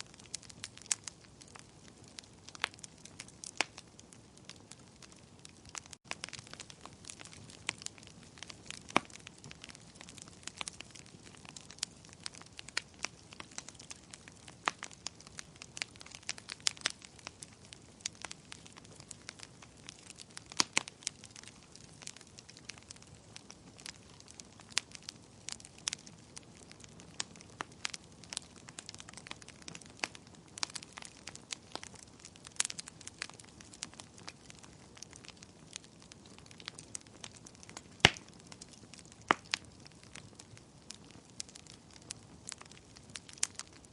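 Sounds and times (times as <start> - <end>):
fireplace fire crackling: 0.0 - 43.9.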